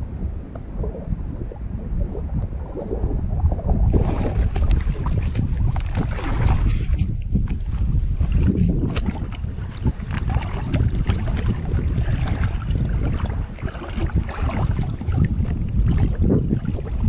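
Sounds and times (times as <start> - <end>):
water splashing and lapping: 0.0 - 17.0
wind buffeting microphone: 0.0 - 17.0.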